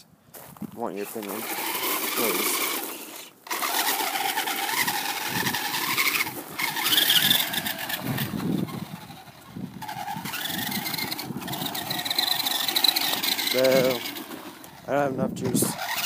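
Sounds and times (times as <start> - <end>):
small motor whining: 0.9 - 16.0.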